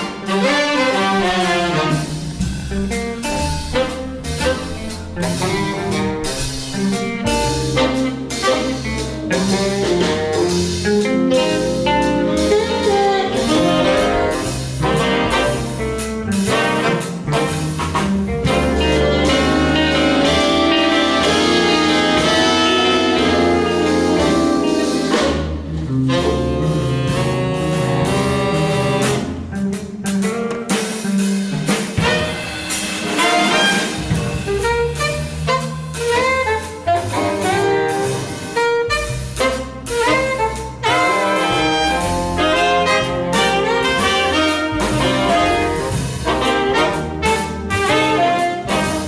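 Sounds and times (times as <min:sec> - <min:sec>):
jazz band playing: 0:00.0 - 0:49.0.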